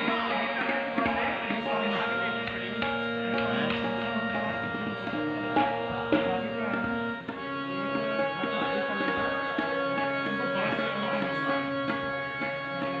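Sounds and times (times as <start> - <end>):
sustained melodic instrument: 0.0 - 13.0
tabla strokes: 0.0 - 13.0.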